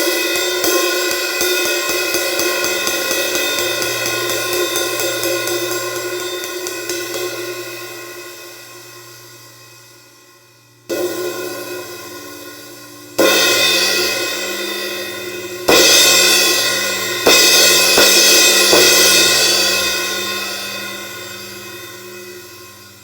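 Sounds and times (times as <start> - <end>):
ride cymbal ringing: 0.0 - 23.0.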